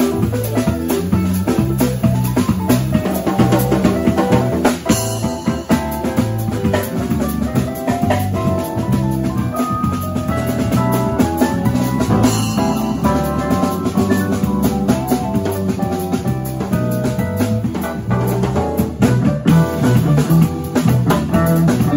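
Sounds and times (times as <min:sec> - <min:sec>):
drums busy beat: 0:00.0 - 0:21.9
live instrumental band: 0:00.0 - 0:21.9.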